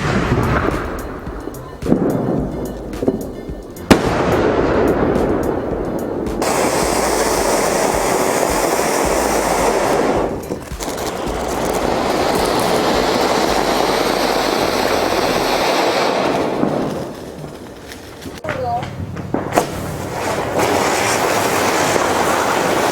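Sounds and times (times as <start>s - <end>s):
fireworks rushing hiss: 0.0s - 18.4s, 19.2s - 22.9s.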